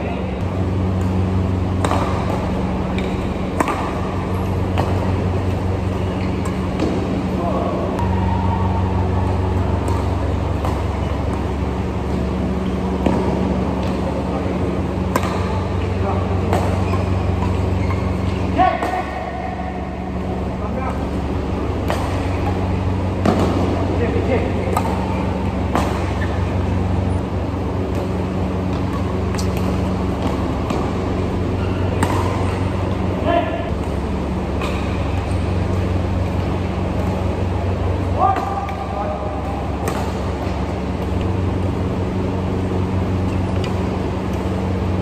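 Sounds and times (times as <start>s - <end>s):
low machine hum: 0.0s - 45.0s
rackets hitting shuttlecock: 0.4s - 44.9s.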